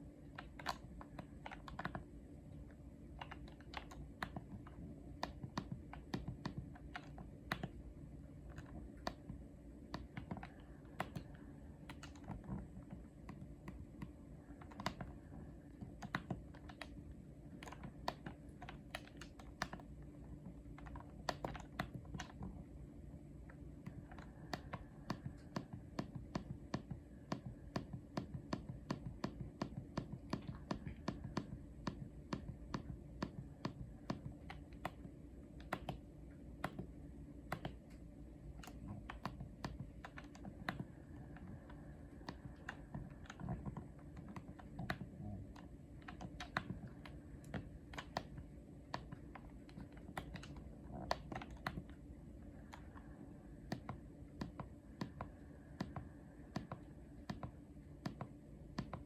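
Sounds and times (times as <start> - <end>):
remote controller buttons clicking: 0.2 - 2.1, 2.7 - 7.8, 8.4 - 22.6, 23.5 - 52.0, 52.6 - 59.0.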